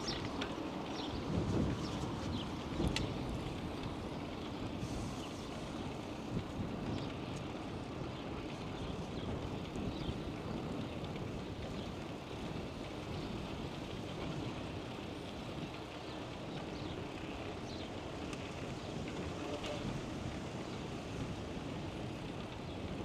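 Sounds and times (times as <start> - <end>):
bicycle tyres rolling: 0.0 - 23.0
wind rumble on microphone: 0.0 - 23.0.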